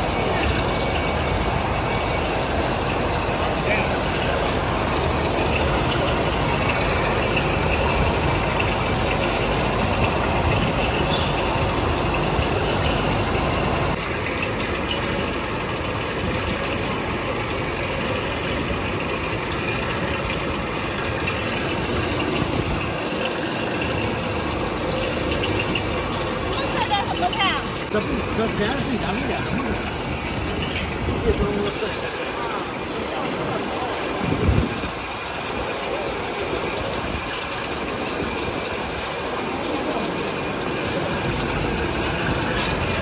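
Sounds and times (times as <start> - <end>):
rotating drum machinery noise: 0.0 - 43.0.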